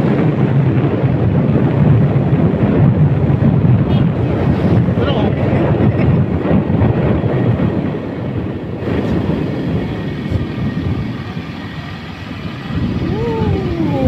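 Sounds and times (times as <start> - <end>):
vehicle road noise rumbling: 0.0 - 14.0
wind buffeting microphone: 0.0 - 14.0.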